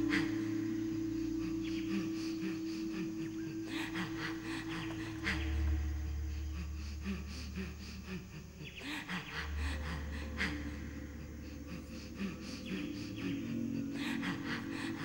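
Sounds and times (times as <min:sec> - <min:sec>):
low sustained drone: 0:00.0 - 0:15.0.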